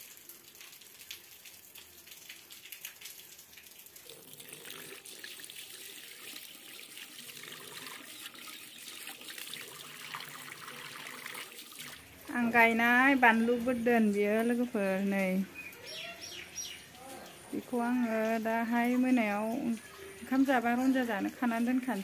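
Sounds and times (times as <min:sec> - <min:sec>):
tap water running into basin: 0:00.0 - 0:22.0.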